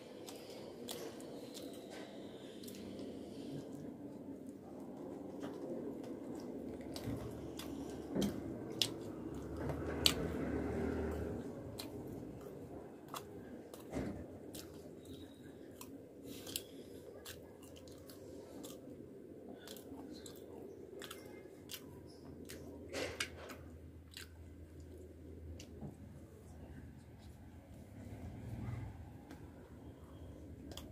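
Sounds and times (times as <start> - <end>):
person chewing food: 0.0 - 26.6, 30.6 - 30.9.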